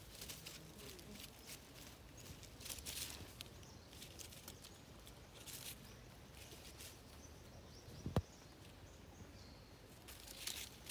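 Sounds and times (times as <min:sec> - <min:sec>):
rustling of dry leaves: 0:00.0 - 0:10.9.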